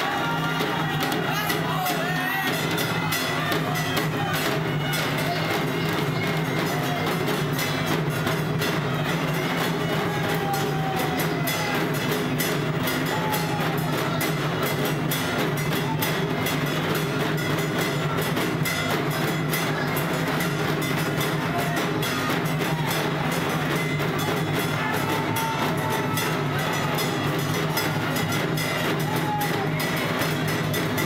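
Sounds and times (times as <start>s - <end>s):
drums beaten in fast rhythm: 0.0s - 31.0s.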